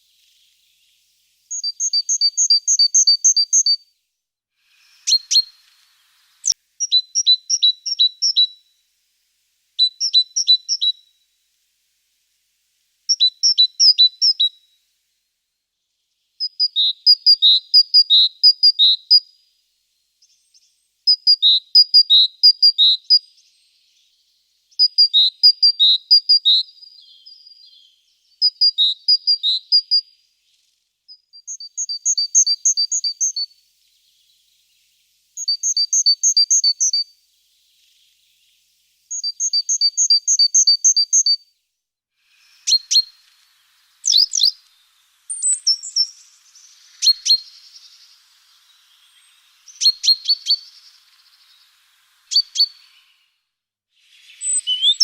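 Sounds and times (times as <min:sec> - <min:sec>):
small songbird singing: 0:00.0 - 0:55.0.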